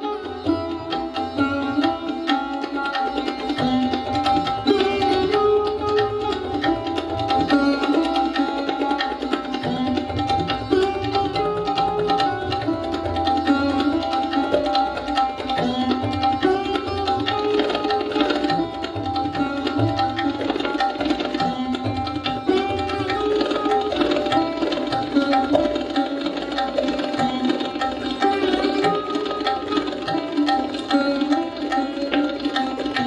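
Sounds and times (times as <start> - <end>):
plucked sarod notes: 0.0 - 33.0
tabla strokes: 0.0 - 33.0.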